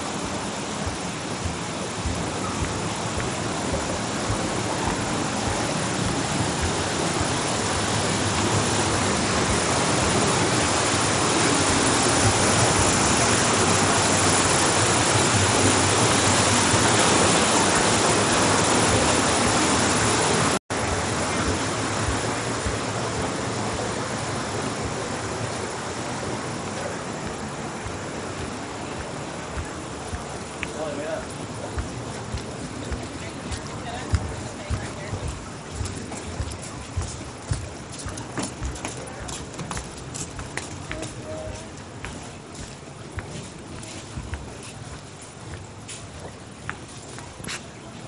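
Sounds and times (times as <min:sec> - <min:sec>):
water rushing over rocks: 0:00.0 - 0:48.0.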